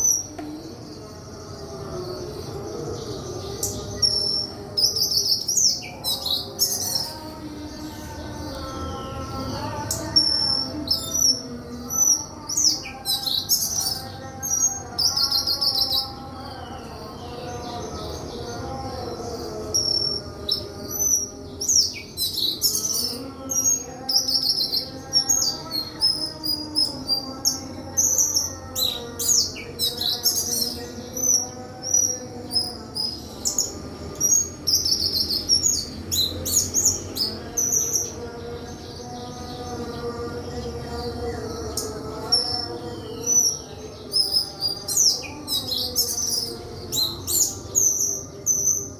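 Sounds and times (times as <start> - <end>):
bird singing high chirps and trills: 0.0 - 48.9.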